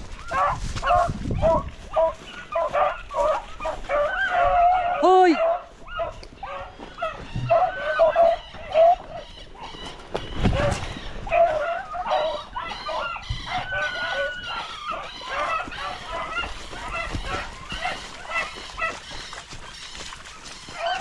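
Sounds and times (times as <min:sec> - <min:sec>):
dogs baying: 0:00.0 - 0:21.0.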